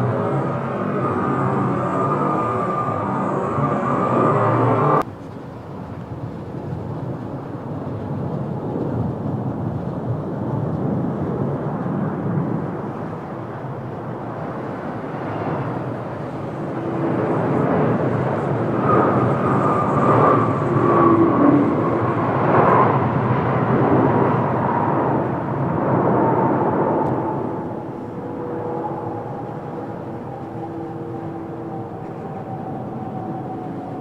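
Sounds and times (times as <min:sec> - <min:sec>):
jet engines roaring: 0:00.0 - 0:05.1, 0:06.2 - 0:34.0
jet engine high whine: 0:00.0 - 0:05.6, 0:06.2 - 0:34.0.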